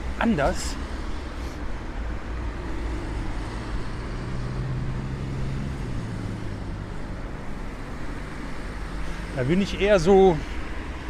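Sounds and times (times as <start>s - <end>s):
street traffic noise: 0.0s - 11.0s
vehicle low hum: 0.0s - 11.0s.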